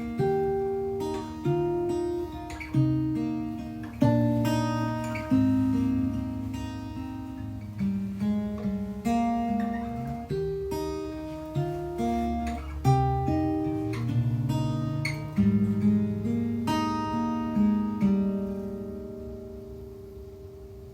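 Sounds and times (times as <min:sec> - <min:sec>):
acoustic guitar playing: 0:00.0 - 0:20.9.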